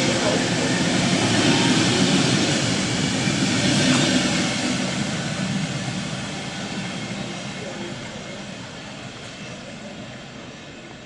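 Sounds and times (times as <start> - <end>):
train coaches rolling past: 0.0 - 11.0.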